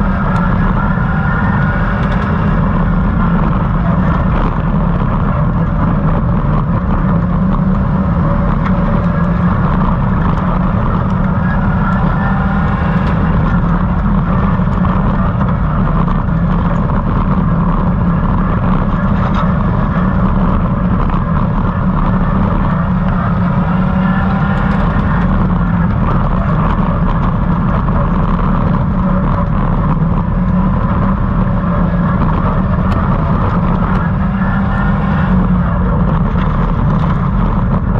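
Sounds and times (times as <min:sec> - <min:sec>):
race car engine and road rumble: 0:00.0 - 0:37.9.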